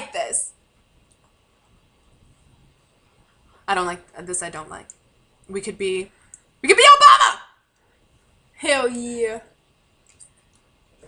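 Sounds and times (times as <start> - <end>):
microphone hiss: 0.0 - 11.0.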